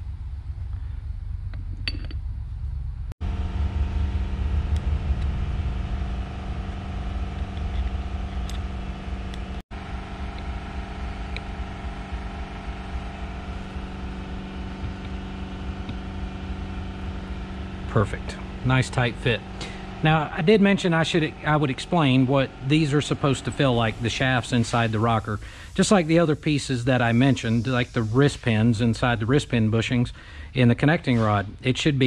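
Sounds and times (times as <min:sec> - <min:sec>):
machinery humming: 0:00.0 - 0:32.0.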